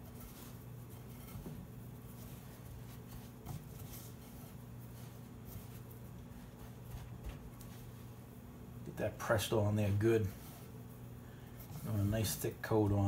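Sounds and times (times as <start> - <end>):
breadcrumbs rustling: 0.0 - 8.4, 9.0 - 13.0
steady low hum: 0.0 - 13.0.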